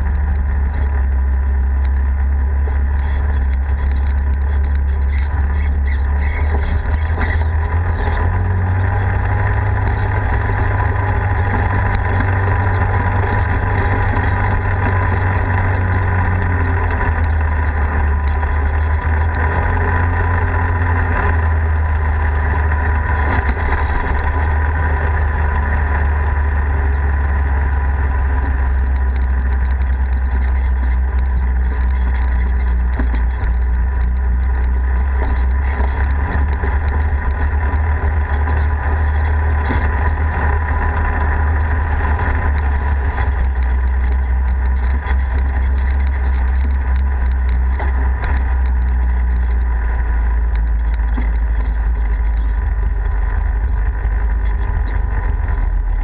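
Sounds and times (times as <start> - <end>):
off-road vehicle engine droning: 0.0 - 56.0.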